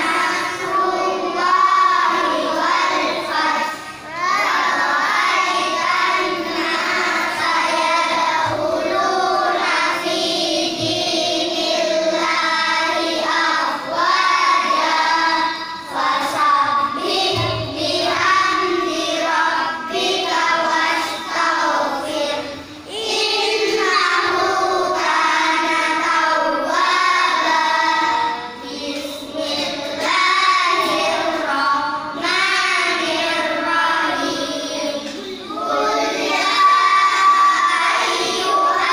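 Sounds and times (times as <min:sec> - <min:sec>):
boy reciting into a microphone: 0:00.0 - 0:38.9
children chanting together: 0:00.0 - 0:38.9.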